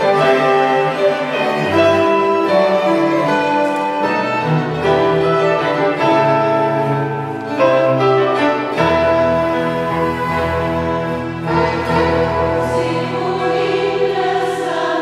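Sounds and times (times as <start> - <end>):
melody in long held notes: 0.0 - 15.0.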